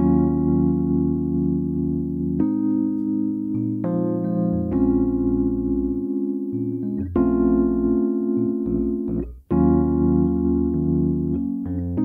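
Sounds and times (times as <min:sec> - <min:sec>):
electric keyboard chords: 0:00.0 - 0:12.0.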